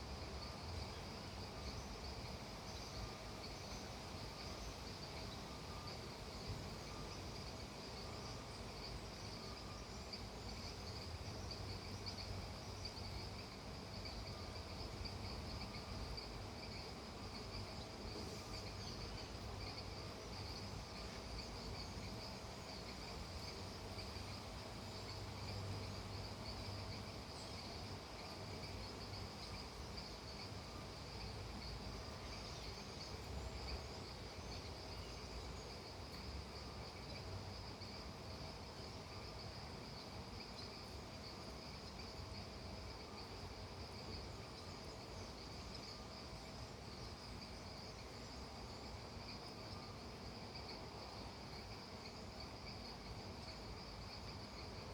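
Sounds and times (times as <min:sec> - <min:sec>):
crickets trilling: 0:00.0 - 0:54.9
faint insect calls: 0:00.0 - 0:54.9
lower insect trill: 0:00.0 - 0:54.9.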